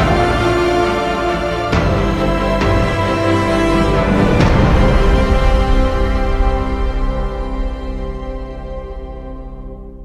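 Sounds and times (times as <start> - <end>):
background music held chords: 0.0 - 10.0.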